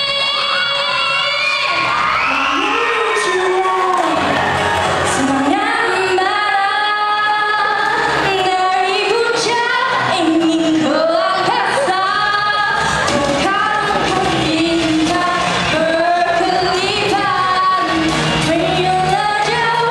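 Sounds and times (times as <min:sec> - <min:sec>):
musical accompaniment: 0:00.0 - 0:19.9
woman singing into microphone: 0:00.0 - 0:19.9.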